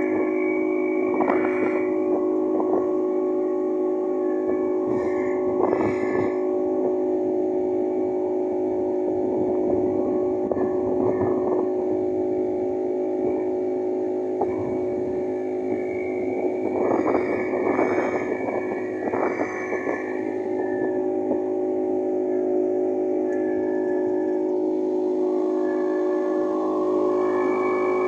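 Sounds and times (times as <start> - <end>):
motorboat engine droning: 0.0 - 28.0.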